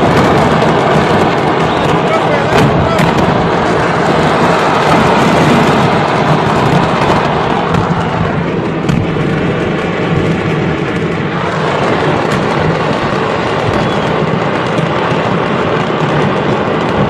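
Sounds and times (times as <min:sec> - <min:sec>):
constant rumble: 0:00.0 - 0:17.0
fireworks crackling and popping: 0:00.0 - 0:17.0
sharp firework crack: 0:00.0 - 0:17.0.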